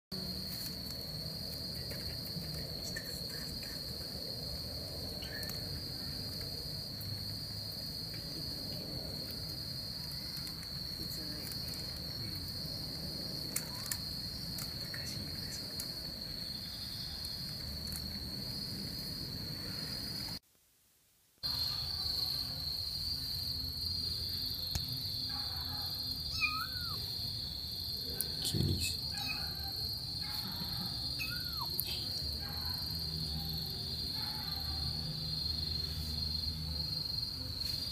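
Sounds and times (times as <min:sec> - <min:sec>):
crickets trilling: 0:00.2 - 0:20.4, 0:21.4 - 0:37.9.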